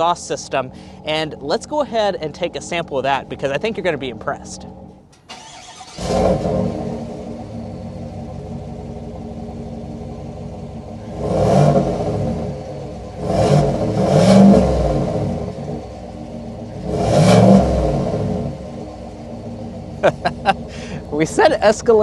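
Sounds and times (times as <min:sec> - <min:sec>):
engine idling and revving: 0:00.0 - 0:22.0.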